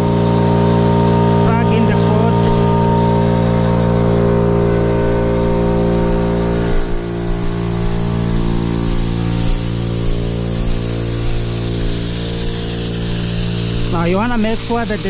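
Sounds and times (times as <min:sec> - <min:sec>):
air compressor humming: 0:00.0 - 0:15.0
air hissing from sprinkler heads: 0:00.0 - 0:15.0.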